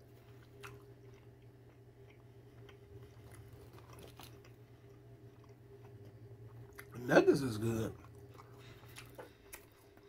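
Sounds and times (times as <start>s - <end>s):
person chewing: 0.0s - 7.0s, 7.8s - 10.0s
steady low hum: 0.0s - 10.0s.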